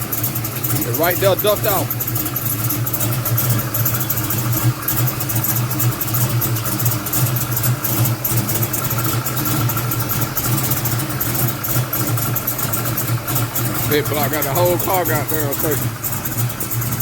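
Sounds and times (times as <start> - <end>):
lumpy idling engine: 0.0 - 17.0.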